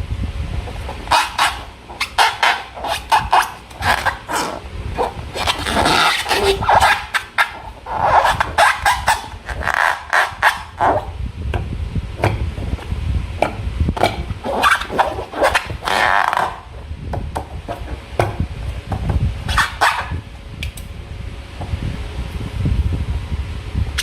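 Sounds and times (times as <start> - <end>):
low handling rumble: 0.0 - 19.5.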